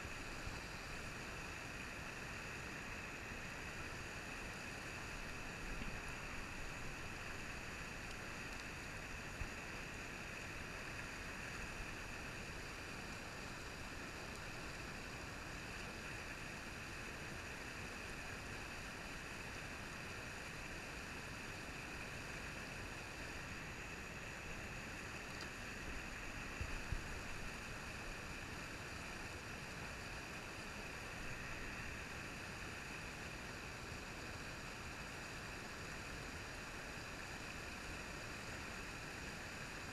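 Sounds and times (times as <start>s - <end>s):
water rushing over rocks: 0.0s - 39.8s.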